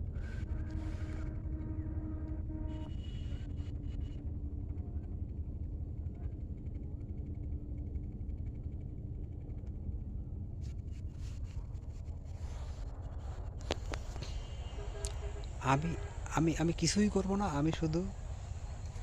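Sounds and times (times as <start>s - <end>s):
low rumble with faint hum: 0.0s - 19.0s.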